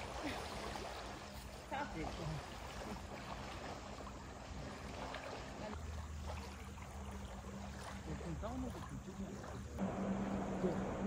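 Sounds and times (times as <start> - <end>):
faint low hum: 0.0 - 11.0
water lapping at shore: 0.0 - 11.0.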